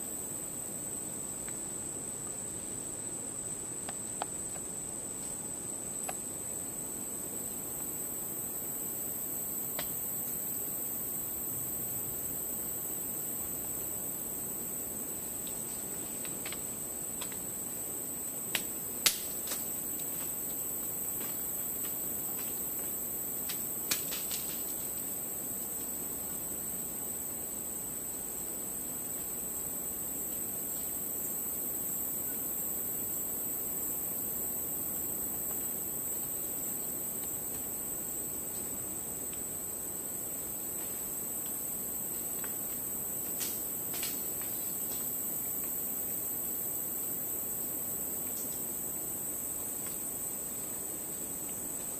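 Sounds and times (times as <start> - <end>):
insects droning: 0.0 - 51.9.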